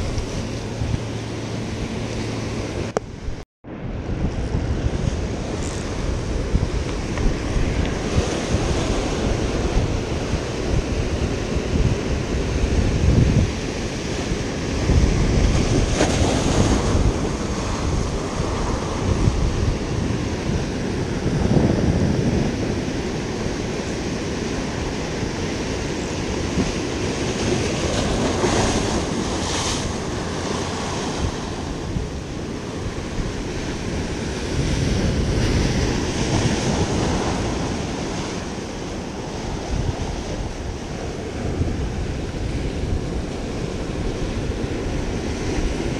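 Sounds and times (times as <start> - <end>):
wind buffeting microphone: 0.0 - 45.9
surf washing against rocks: 4.5 - 45.9.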